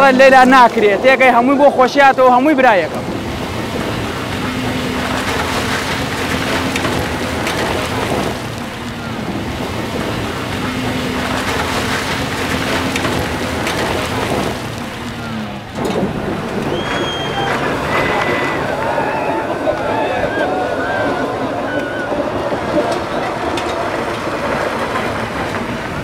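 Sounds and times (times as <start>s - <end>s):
vehicle engine running: 0.0s - 26.0s
water splashing: 0.0s - 26.0s.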